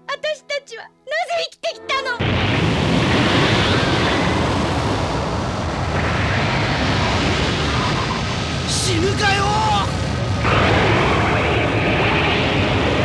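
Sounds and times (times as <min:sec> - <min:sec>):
loud rushing roar: 0:02.2 - 0:13.0.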